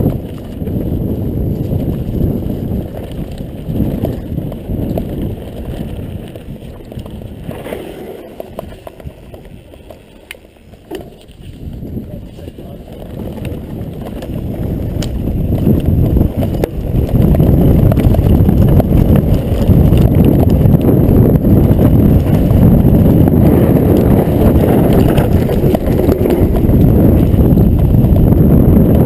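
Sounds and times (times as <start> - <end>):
bike rattling: 0.0 - 29.0
wind buffeting microphone: 0.0 - 29.0.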